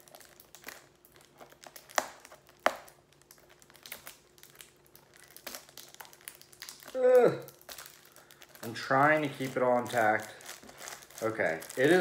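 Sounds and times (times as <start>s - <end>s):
cellophane crinkling: 0.0s - 12.0s
cellophane snapping: 0.0s - 12.0s.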